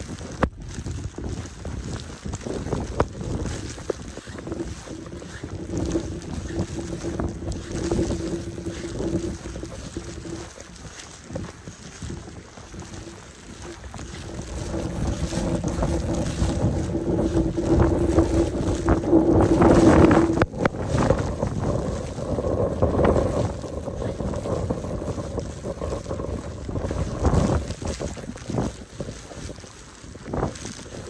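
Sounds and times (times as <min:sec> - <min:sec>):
wind gusting against microphone: 0:00.0 - 0:31.0.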